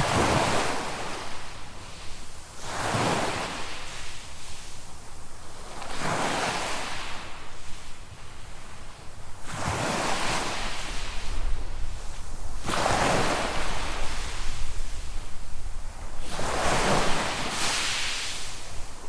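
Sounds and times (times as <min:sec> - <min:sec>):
small waves washing up beach: 0:00.0 - 0:19.0.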